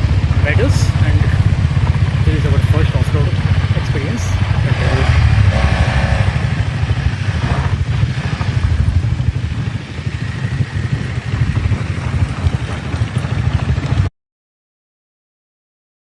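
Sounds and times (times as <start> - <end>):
motorcycle engine rumbling: 0.0 - 14.1.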